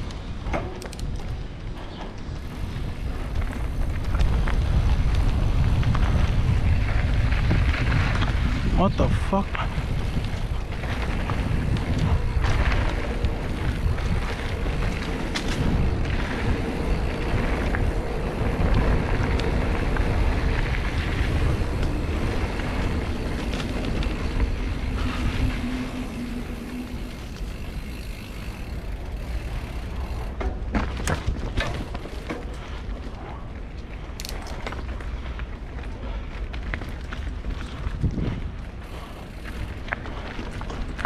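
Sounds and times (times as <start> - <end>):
bike rattles: 0.0 - 41.0
bike tyre rumble on dirt: 0.0 - 41.0
wind rumble on microphone: 0.0 - 41.0.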